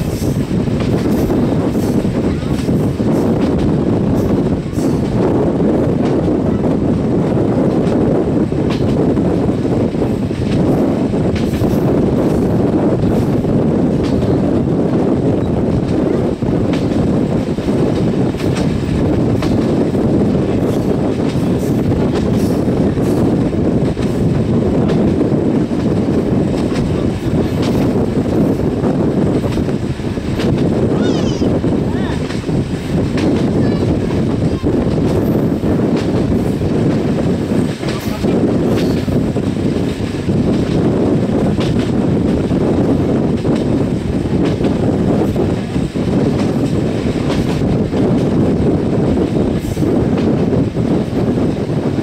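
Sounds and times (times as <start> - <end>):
wheels rumbling on rails: 0.0 - 52.0
wind buffeting microphone: 0.0 - 52.0.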